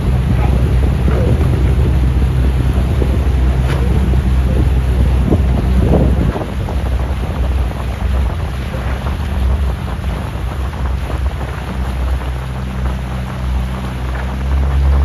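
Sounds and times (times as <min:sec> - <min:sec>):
outboard motor humming: 0:00.0 - 0:15.0
water rushing past hull: 0:00.0 - 0:15.0
wind buffeting microphone: 0:00.0 - 0:15.0.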